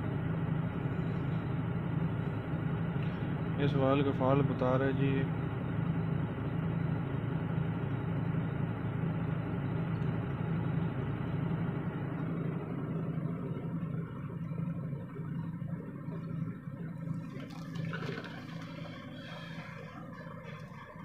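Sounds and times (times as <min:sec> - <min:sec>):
truck diesel engine idling: 0:00.0 - 0:21.0.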